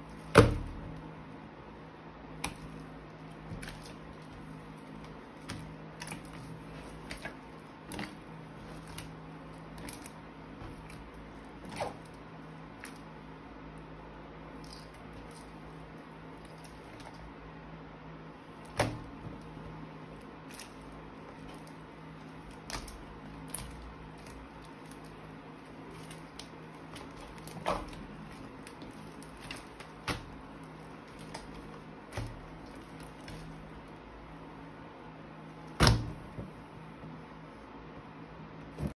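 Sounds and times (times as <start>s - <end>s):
faint steady hum: 0.0s - 39.0s
slime squelching: 2.3s - 34.8s.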